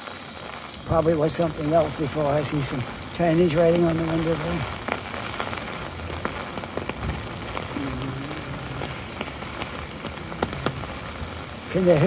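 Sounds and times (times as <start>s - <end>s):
rain on an umbrella: 0.0s - 12.0s.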